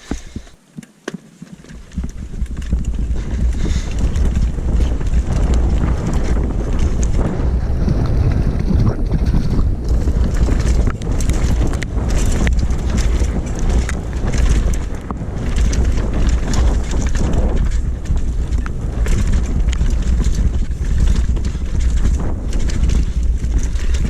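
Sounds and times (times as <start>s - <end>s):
bike rattles and knocks: 0.0s - 24.0s
wind buffeting microphone: 1.7s - 24.0s.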